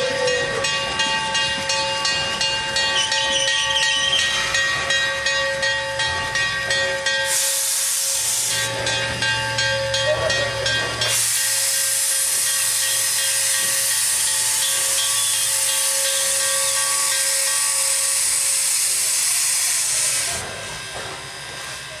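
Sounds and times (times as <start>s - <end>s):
steam locomotive venting steam: 0.0s - 22.0s.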